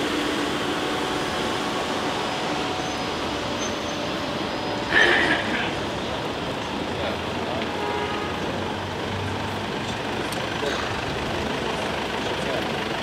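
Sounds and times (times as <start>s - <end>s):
large vehicle engine running: 0.0s - 13.0s.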